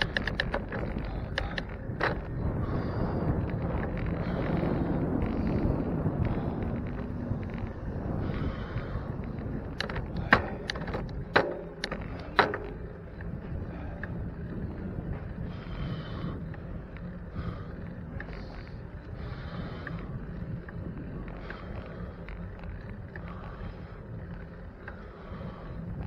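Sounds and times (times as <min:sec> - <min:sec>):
bicycle rumbling: 0:00.0 - 0:26.0
wind on microphone: 0:00.0 - 0:26.0.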